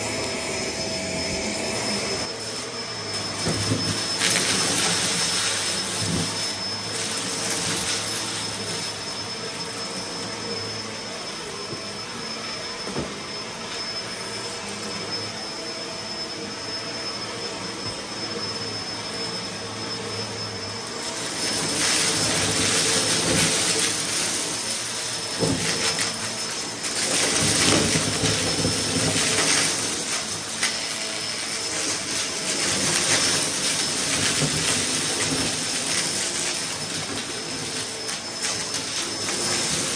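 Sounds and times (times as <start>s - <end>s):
upright vacuum cleaner whine: 0.0s - 39.9s.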